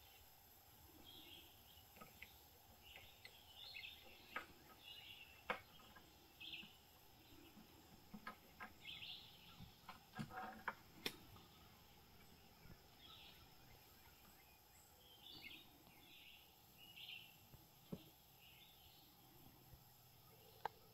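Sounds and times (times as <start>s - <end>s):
faint bird chirps: 0.0s - 10.6s, 11.2s - 20.9s.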